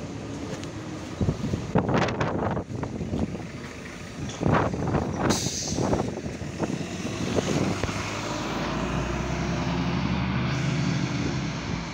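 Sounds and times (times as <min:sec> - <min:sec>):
bus engine drone: 0:00.0 - 0:11.9.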